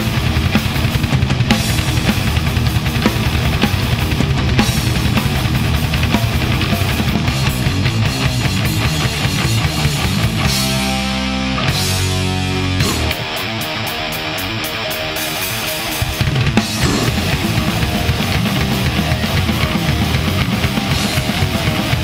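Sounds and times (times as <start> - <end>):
fast dense drumming: 0.0 - 10.7, 11.8 - 22.0
distorted guitars: 0.0 - 22.0.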